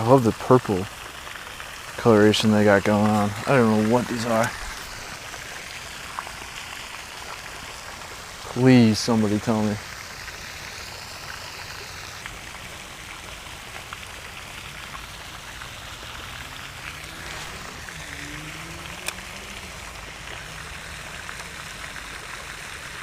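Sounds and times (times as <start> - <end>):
water pattering: 0.0 - 23.0.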